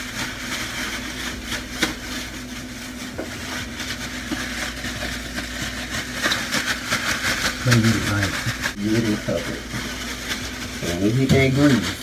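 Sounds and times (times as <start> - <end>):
chicken wings rustling in breading: 0.0 - 12.0
steady mechanical hum: 0.0 - 12.0.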